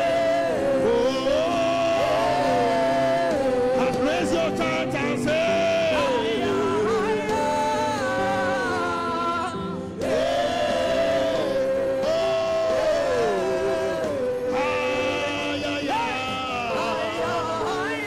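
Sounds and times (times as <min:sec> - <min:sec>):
group of voices singing: 0:00.0 - 0:18.0
instrumental backing music: 0:00.0 - 0:18.0.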